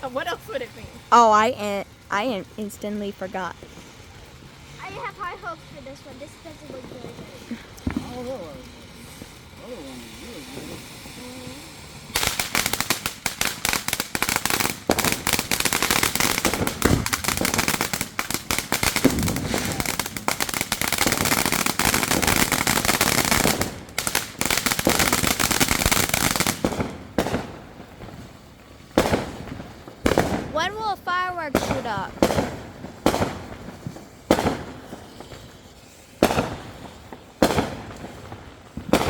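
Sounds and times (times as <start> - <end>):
firework crackling: 0.0 - 39.0.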